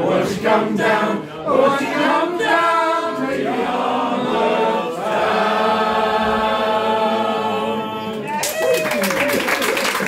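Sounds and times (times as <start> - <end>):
group singing folk song: 0.0 - 8.3.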